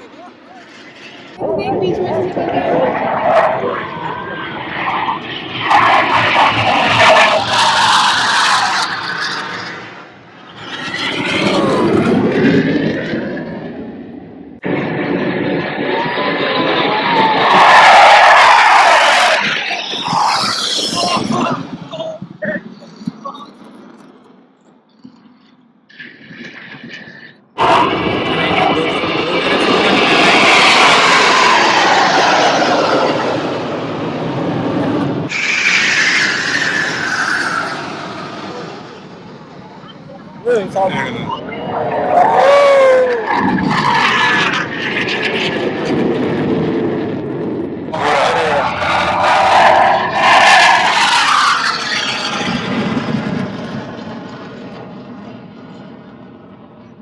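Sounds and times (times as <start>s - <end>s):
jet aircraft flying past: 0.0s - 24.4s, 25.4s - 57.0s.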